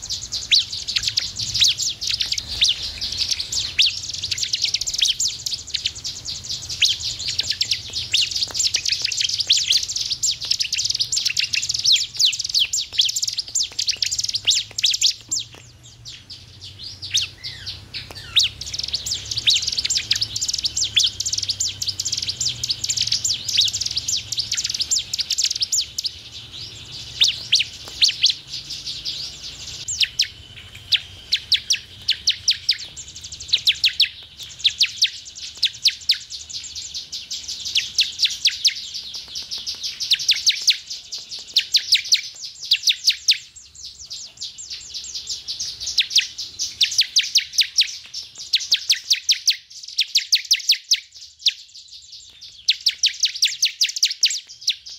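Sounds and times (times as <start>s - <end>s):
bird chirping: 0.0s - 54.9s.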